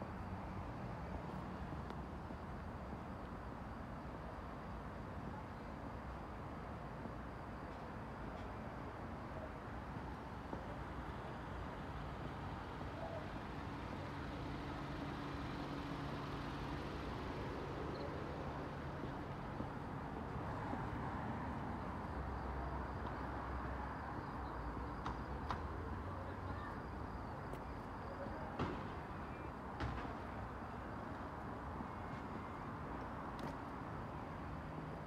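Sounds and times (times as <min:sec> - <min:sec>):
faint low engine hum: 0:00.0 - 0:35.0
low rumble of road traffic: 0:00.0 - 0:35.0.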